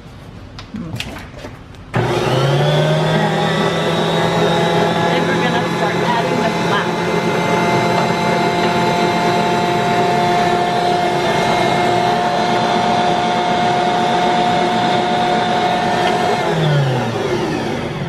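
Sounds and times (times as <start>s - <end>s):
stand mixer motor whining: 2.0s - 18.0s.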